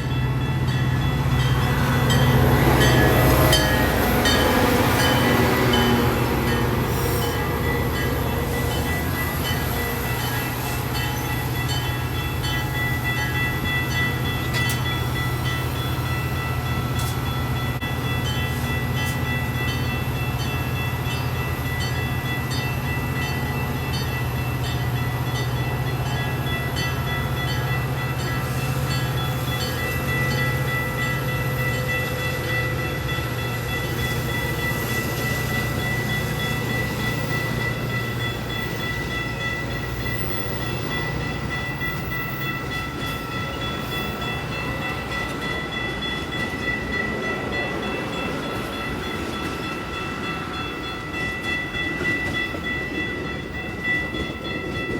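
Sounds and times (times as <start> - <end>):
train engine drone: 0.0 - 54.9.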